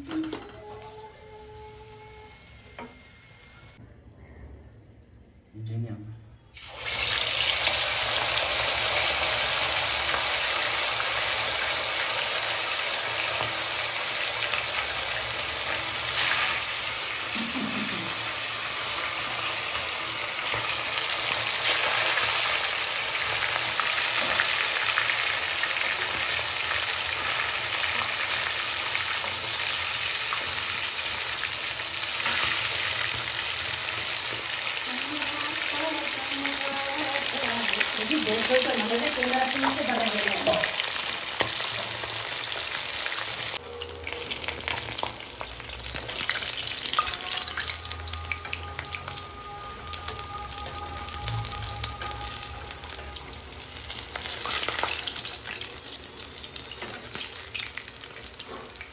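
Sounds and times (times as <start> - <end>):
oil sizzling and crackling: 6.5 - 58.9.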